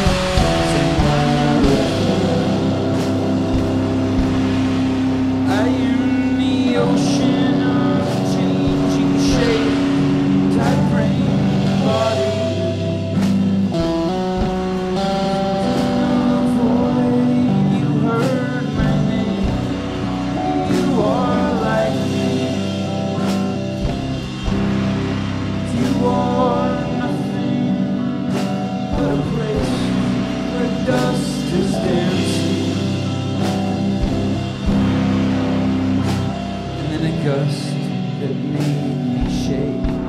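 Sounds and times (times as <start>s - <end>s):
drums and cymbal strikes: 0.0s - 40.0s
electric guitar: 0.0s - 40.0s
long held low notes: 0.0s - 40.0s
person singing: 0.0s - 40.0s.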